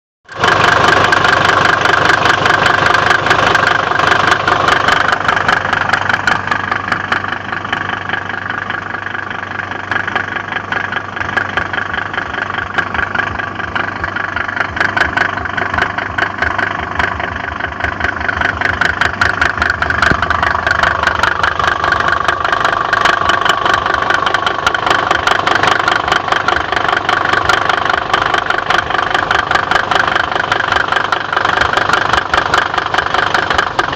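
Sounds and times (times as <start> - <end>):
rapid regular engine knocking: 0.2 - 33.9
diesel engine idling: 0.3 - 33.9.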